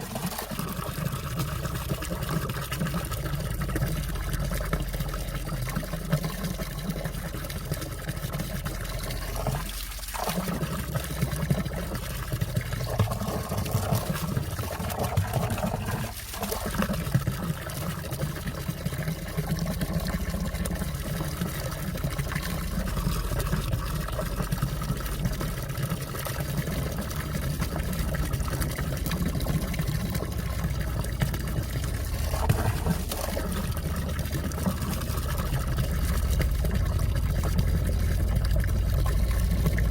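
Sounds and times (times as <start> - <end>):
stream water flowing under ice: 0.0 - 39.9.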